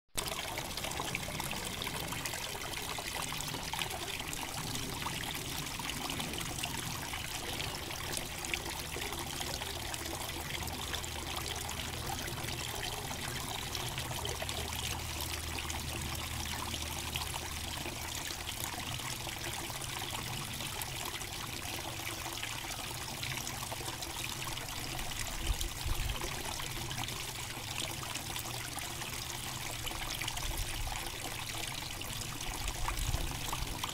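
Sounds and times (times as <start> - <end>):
water pouring into pond: 0.2 - 33.9.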